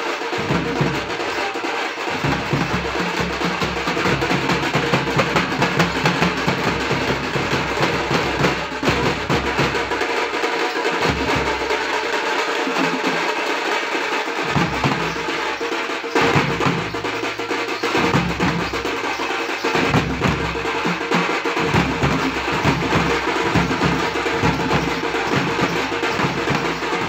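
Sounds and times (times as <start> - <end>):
frame drums beaten fast: 0.0 - 27.0.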